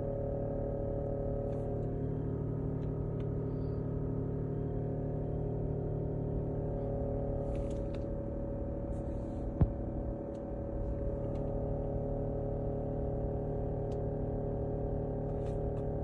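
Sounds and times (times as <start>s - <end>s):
humming drone: 0.0s - 16.0s.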